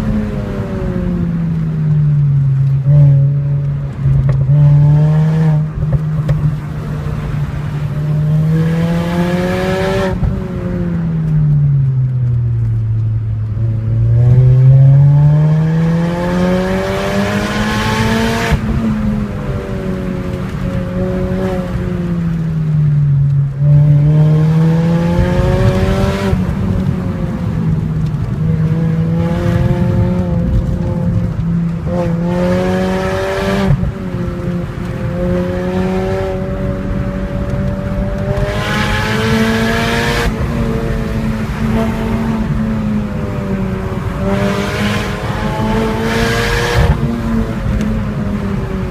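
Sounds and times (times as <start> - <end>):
car engine and exhaust revving: 0.0 - 48.9.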